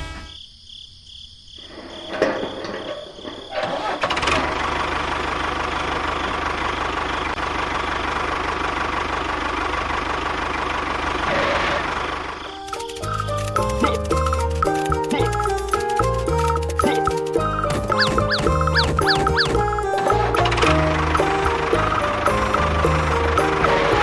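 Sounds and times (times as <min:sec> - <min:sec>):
small engine sputtering and running: 0:03.8 - 0:24.0.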